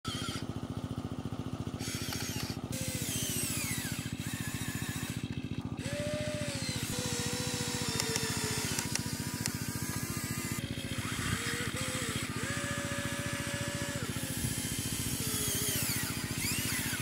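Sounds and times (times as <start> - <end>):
motor whines gliding up and down: 0.0 - 0.6, 1.7 - 17.0
fast engine-like pulsing: 1.7 - 17.0.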